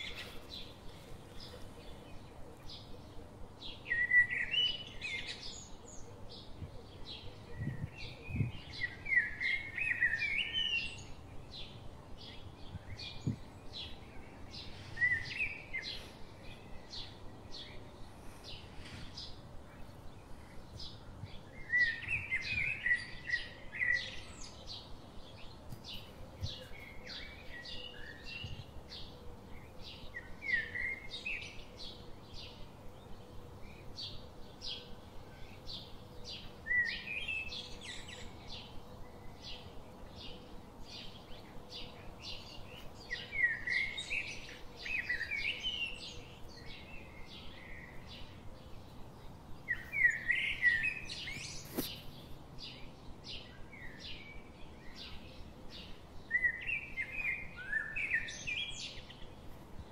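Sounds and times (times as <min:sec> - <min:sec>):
bird warbling song: 0:00.0 - 0:59.9
small birds chirping: 0:00.0 - 0:59.9.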